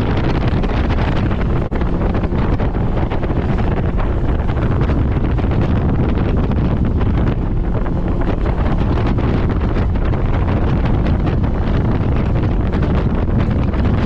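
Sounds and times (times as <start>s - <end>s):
outboard motor running: 0.0s - 14.0s
wind buffeting microphone: 0.0s - 14.0s.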